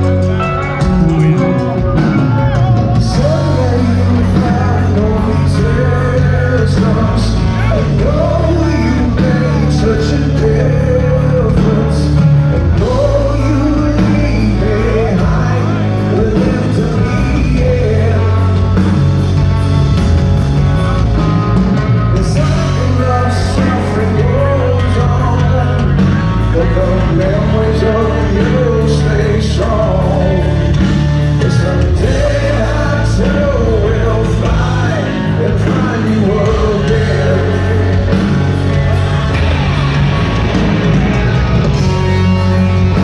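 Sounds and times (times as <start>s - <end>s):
bass guitar: 0.0s - 43.0s
distorted electric guitars: 0.0s - 43.0s
drums: 0.0s - 43.0s.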